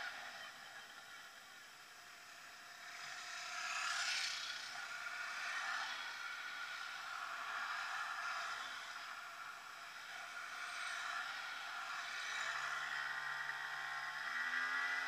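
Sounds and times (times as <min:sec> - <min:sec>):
two-stroke motorcycle engine: 0:00.0 - 0:15.0.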